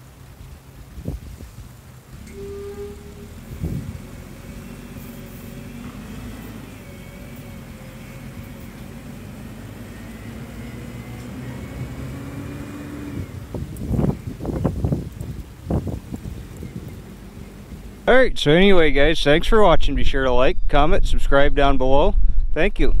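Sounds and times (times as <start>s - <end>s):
truck diesel engine: 0.0s - 19.4s.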